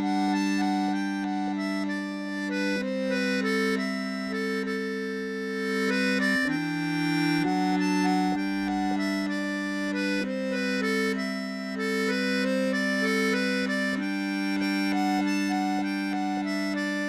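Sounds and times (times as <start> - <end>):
piano accordion folk tune: 0.0 - 17.0.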